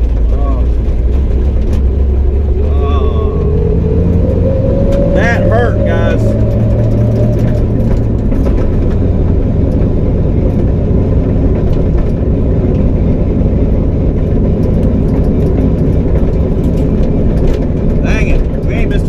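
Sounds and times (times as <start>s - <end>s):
loud car engine running: 0.0s - 19.0s.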